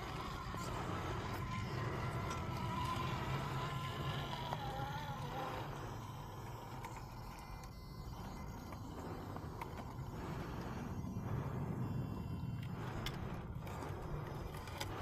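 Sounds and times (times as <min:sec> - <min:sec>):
electric drivetrain whining: 0:00.0 - 0:15.0.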